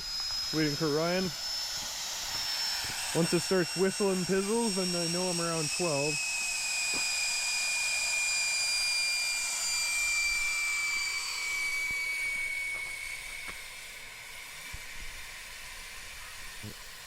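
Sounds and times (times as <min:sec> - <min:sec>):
air whistling out of tire: 0:00.0 - 0:13.9.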